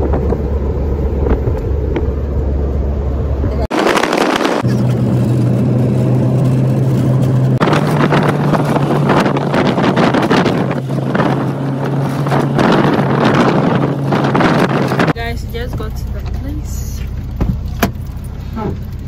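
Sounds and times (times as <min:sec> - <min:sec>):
wind buffeting microphone: 0:00.0 - 0:17.7
car engine and road hum: 0:00.0 - 0:19.0.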